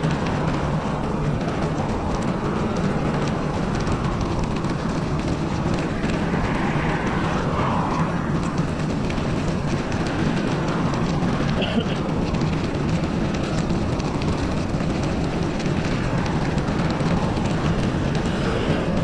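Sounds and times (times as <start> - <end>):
bicycle rolling on snowy trail: 0.0 - 19.0
wind: 0.0 - 19.0.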